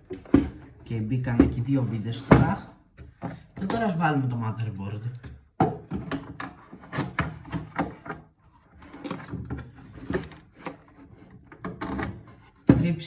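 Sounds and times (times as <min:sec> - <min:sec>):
knocks and scrapes on wooden box: 0:00.0 - 0:04.0, 0:05.3 - 0:13.0.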